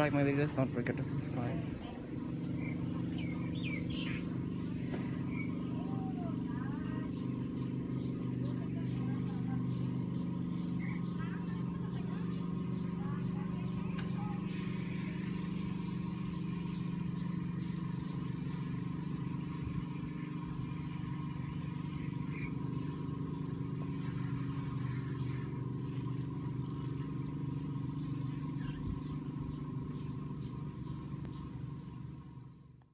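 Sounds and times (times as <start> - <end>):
air conditioner unit humming: 0.0 - 32.7.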